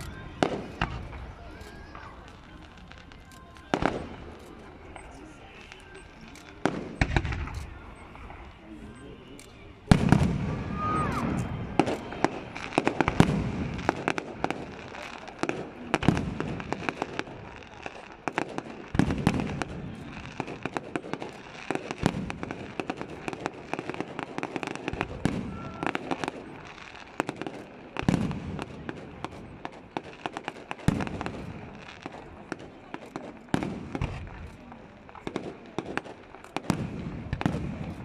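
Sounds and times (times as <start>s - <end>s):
deep fireworks booms: 0.0s - 2.8s, 3.7s - 5.2s, 6.6s - 8.4s, 9.8s - 38.0s
fireworks crackling: 0.0s - 38.0s.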